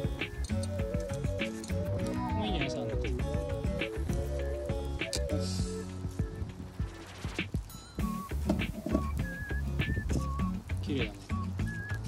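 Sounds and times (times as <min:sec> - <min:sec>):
percussion beat: 0:00.0 - 0:12.0
stepping melody: 0:00.0 - 0:12.0.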